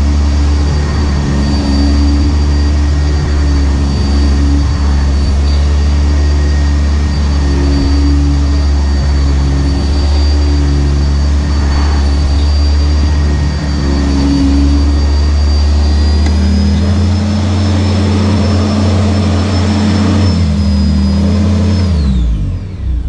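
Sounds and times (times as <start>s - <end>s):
upright vacuum cleaner running: 0.0s - 23.0s.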